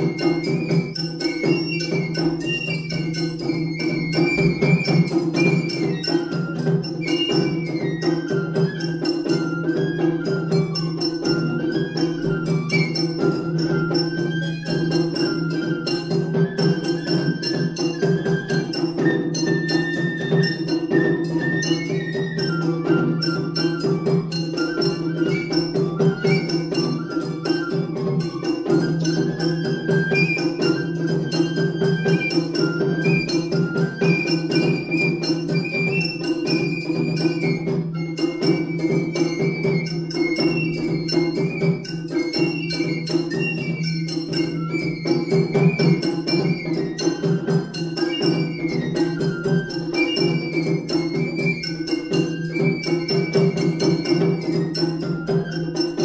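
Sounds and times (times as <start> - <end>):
bamboo flute melody: 0.0 - 56.0
large drum: 0.0 - 56.0
rapid drumming: 0.0 - 56.0.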